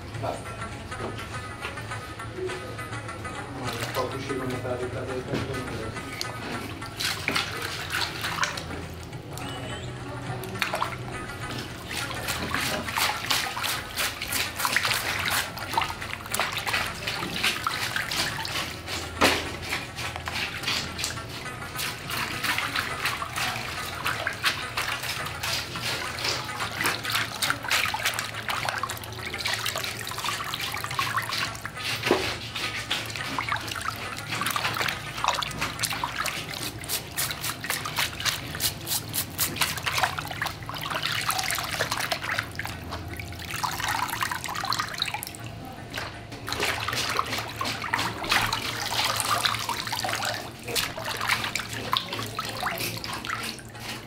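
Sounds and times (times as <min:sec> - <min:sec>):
water splashing in a plastic basin: 0:03.6 - 0:54.0
brush scrubbing fish: 0:03.7 - 0:09.1, 0:10.6 - 0:45.2, 0:46.4 - 0:54.0
water dripping: 0:05.9 - 0:53.8.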